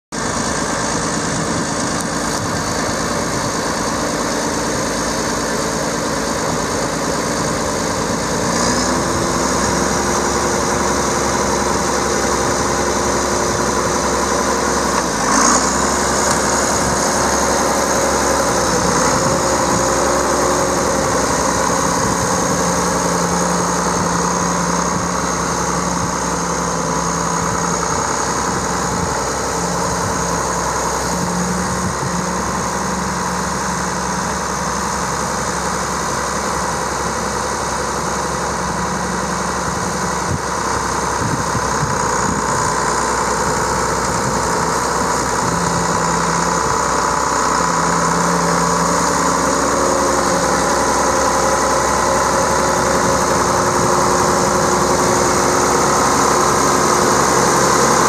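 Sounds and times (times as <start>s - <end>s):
tractor diesel engine running: 0.1s - 58.0s.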